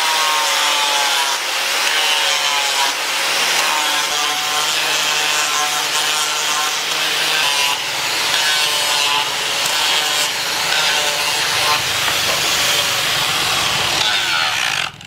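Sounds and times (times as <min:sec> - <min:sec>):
angle grinder sanding wood: 0:00.0 - 0:15.0.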